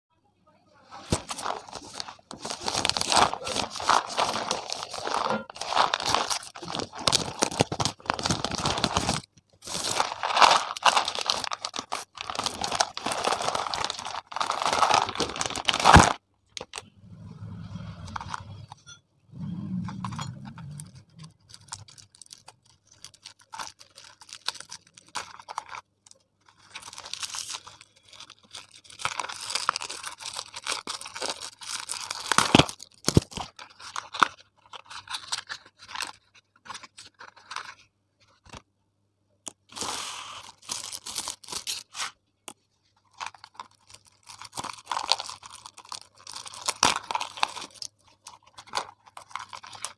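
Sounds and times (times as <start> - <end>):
gift wrap crinkling and tearing: 1.0 - 16.8, 19.8 - 38.6, 39.7 - 42.2, 43.0 - 49.9.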